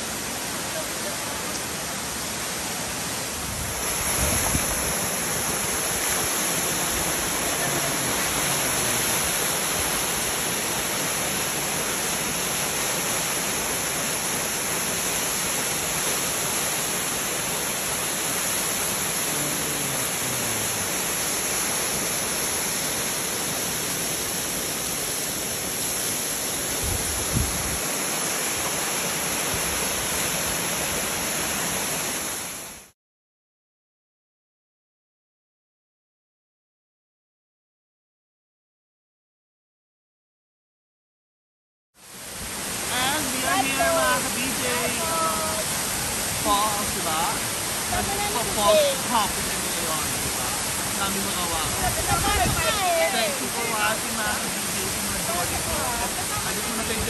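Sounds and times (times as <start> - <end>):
waterfall rushing: 0.0 - 32.9, 42.0 - 57.0.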